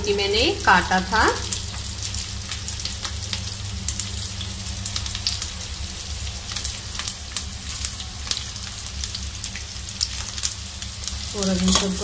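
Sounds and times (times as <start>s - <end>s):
garlic and seeds sizzling in oil: 0.0s - 12.0s.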